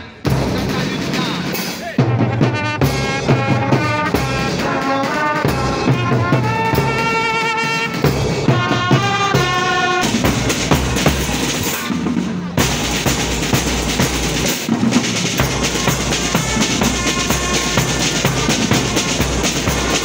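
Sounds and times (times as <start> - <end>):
bass drum and snare: 0.2 - 20.0
brass melody: 2.0 - 20.0.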